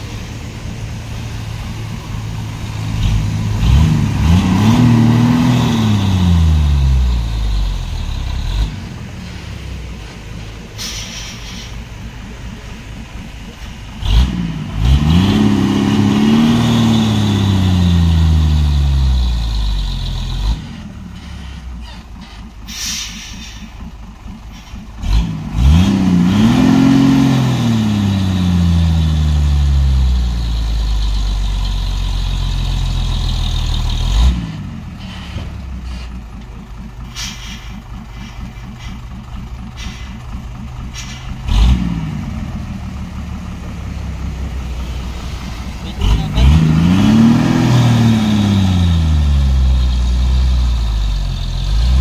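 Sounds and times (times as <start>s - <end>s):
truck diesel engine labouring: 0.0s - 52.0s.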